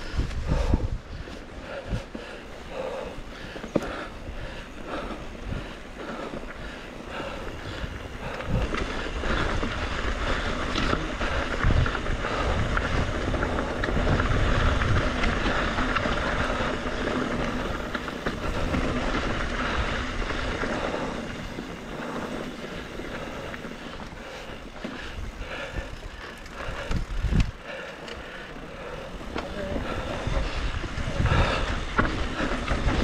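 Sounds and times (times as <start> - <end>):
bike rattling over rough trail: 0.0 - 33.0
bike tyre noise on dirt: 0.0 - 33.0
wind buffeting microphone: 0.0 - 33.0.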